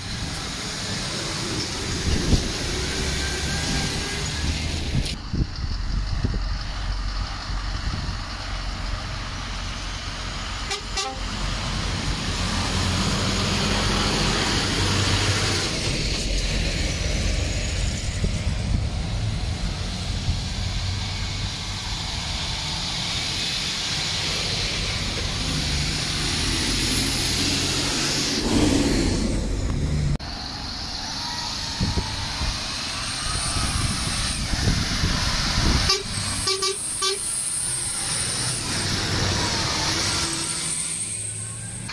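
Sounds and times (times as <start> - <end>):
tyre and air rush: 0.0 - 41.6
truck diesel engines passing: 0.0 - 41.9.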